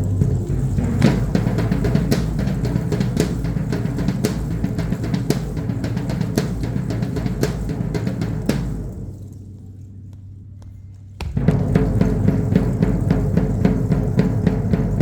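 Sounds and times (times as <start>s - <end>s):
drumming in steady rhythm: 0.0s - 15.0s.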